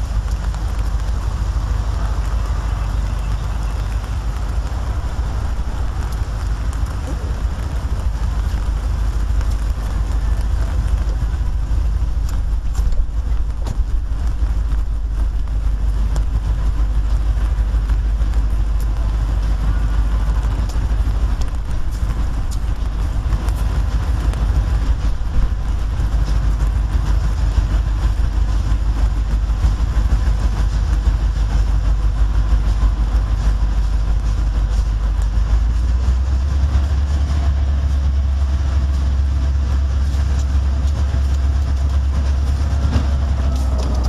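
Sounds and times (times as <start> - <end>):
diesel locomotives rumbling: 0.0 - 44.0.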